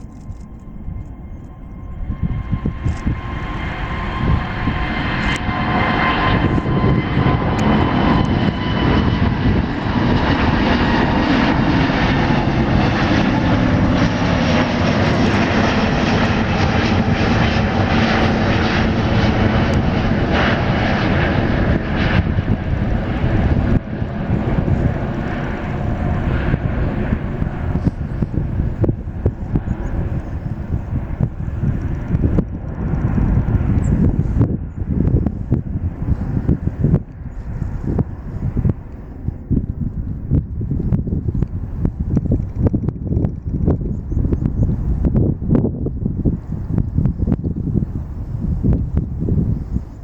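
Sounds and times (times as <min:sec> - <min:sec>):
jet engines rumbling at takeoff: 0:00.0 - 0:50.0.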